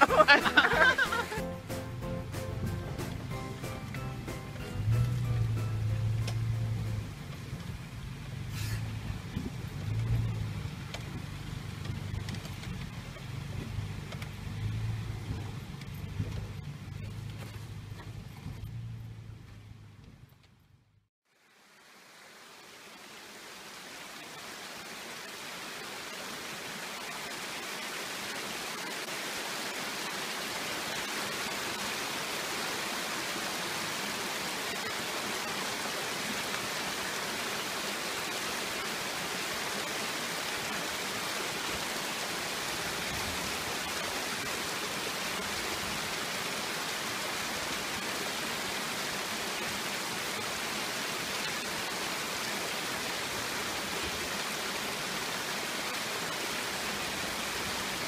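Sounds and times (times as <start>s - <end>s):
stream rushing over rocks: 0.0s - 18.2s, 21.3s - 58.0s.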